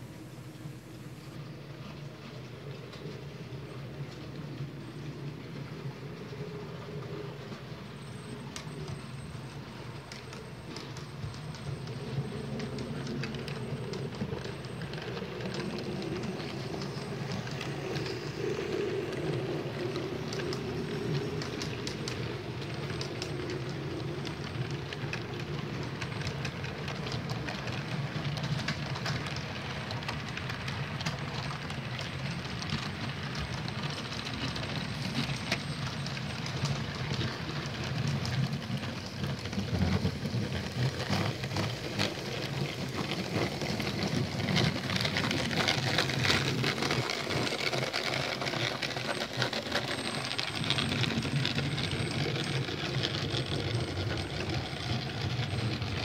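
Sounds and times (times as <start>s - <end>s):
model train wheels clicking: 0.0s - 56.0s.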